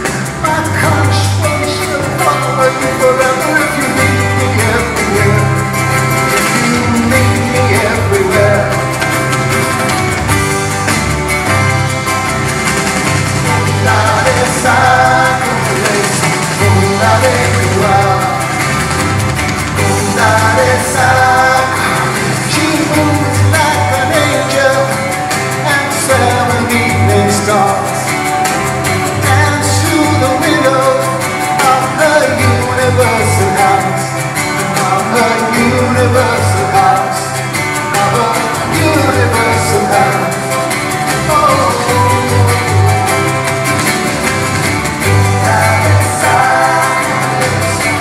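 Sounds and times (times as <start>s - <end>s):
person singing: 0.0s - 10.1s, 13.3s - 48.0s
live band music: 0.0s - 48.0s.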